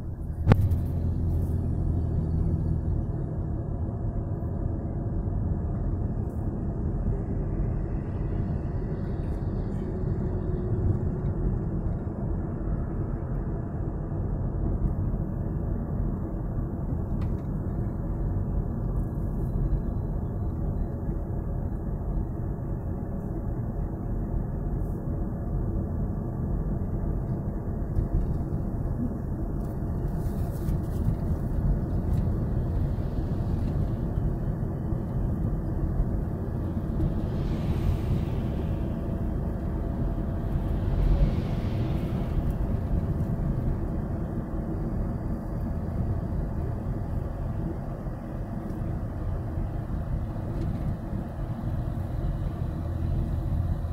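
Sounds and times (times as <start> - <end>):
car engine rumble: 0.0 - 53.9
tyre road noise: 0.0 - 53.9.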